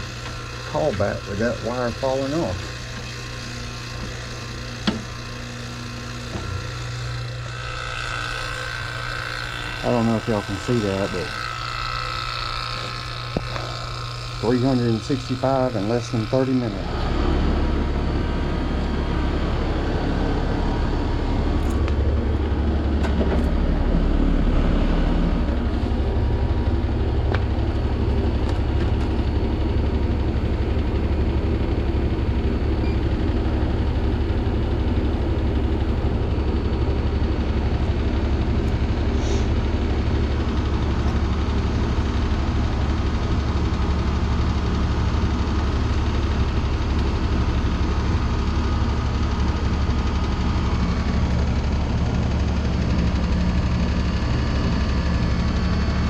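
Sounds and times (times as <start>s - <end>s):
outdoor condenser deep hum: 0.0s - 56.0s.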